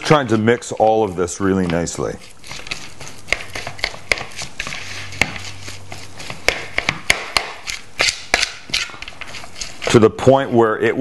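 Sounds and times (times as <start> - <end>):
spoon scraping glass bowl: 0.0 - 6.5, 7.6 - 10.4.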